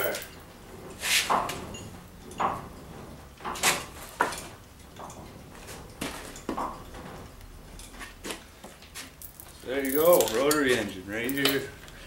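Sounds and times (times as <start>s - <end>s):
metal chain clinking and clanking: 0.0s - 11.8s.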